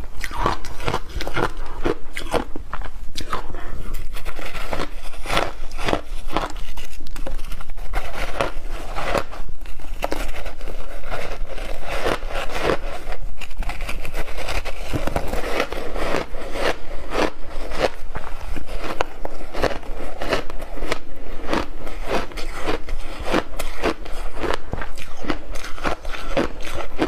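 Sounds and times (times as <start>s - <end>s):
ice being chewed: 0.2s - 27.0s.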